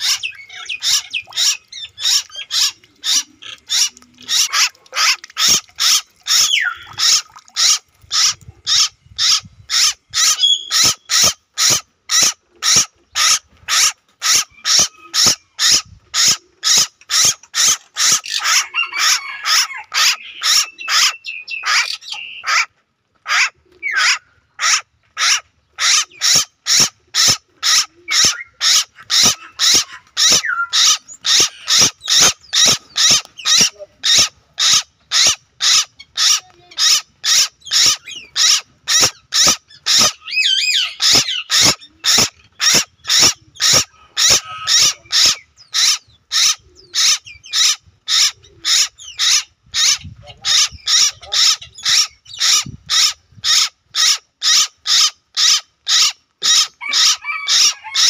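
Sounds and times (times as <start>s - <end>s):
birds singing: 0.0s - 22.7s, 23.3s - 58.0s.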